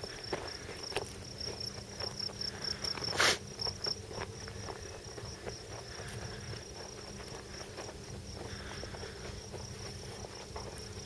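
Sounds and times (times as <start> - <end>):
footsteps on grass and dirt: 0.0 - 11.0
scuffing rustle: 0.0 - 11.0.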